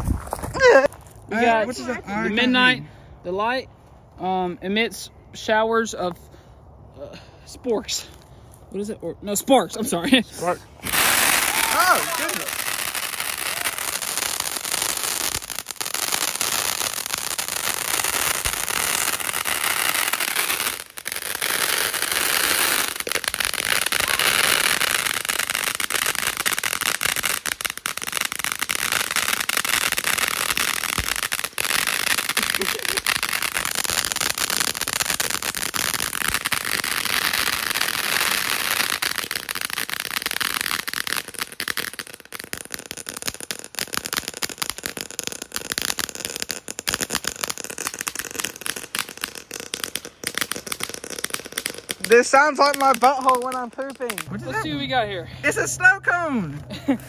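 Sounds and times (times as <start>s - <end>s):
fireworks hissing and crackling: 0.0s - 3.7s, 7.0s - 57.0s.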